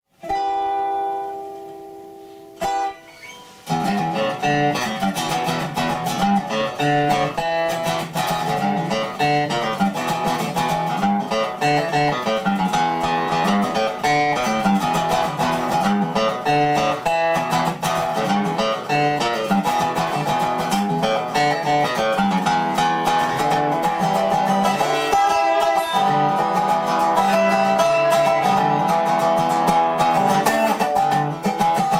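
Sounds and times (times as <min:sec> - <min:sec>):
song with guitar strumming: 0:00.1 - 0:31.9.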